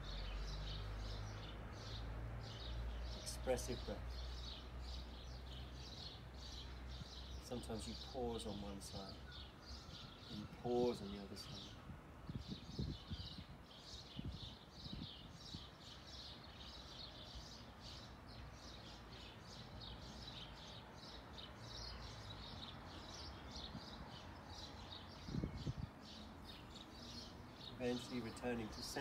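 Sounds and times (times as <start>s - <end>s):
small bird chirping: 0.0s - 29.0s.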